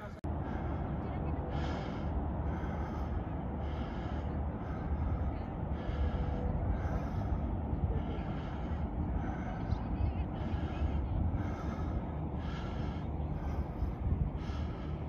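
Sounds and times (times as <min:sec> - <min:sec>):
wind buffeting microphone: 0:00.0 - 0:15.0
heavy breathing: 0:00.3 - 0:15.0.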